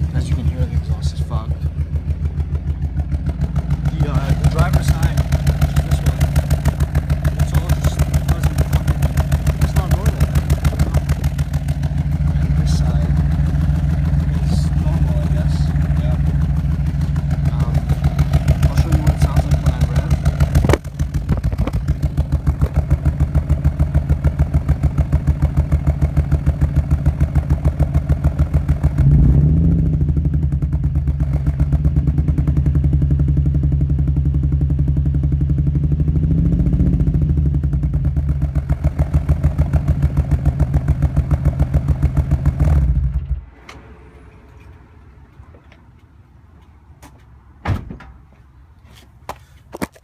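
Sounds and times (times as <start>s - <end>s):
misfiring car engine revving: 0.0s - 43.6s.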